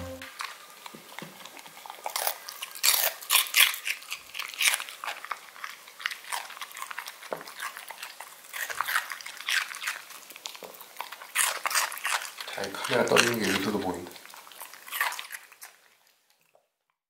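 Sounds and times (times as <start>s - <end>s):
dog crunching celery: 0.2s - 16.8s.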